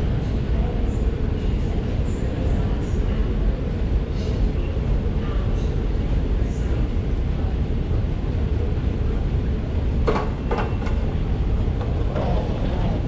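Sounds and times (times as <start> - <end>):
underground station rumble: 0.0 - 13.0.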